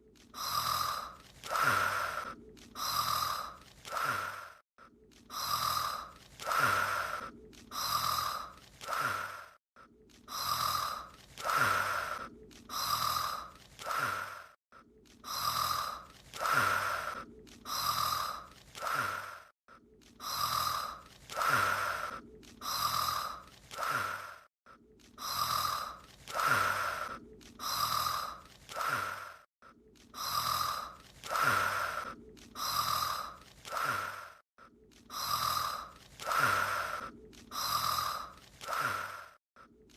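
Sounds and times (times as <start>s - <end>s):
voiced snoring breaths: 0.1s - 39.8s.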